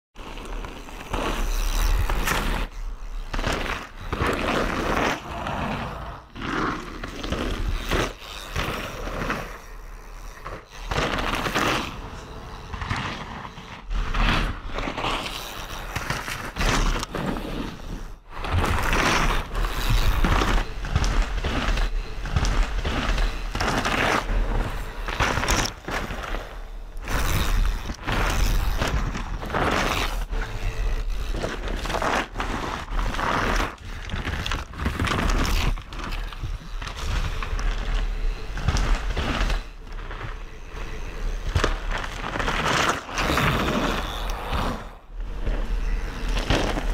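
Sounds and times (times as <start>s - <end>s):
bike tyres skidding on dirt: 0.2s - 46.9s.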